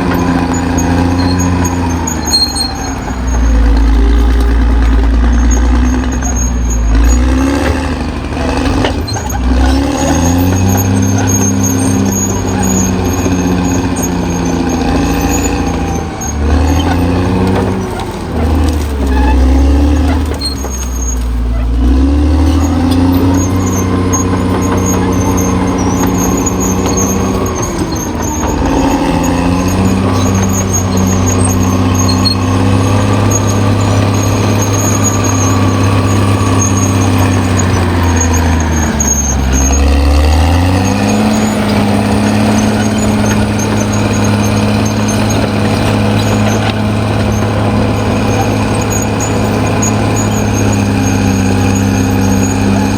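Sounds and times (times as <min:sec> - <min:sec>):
bulldozer diesel engine running hard: 0:00.0 - 0:52.9.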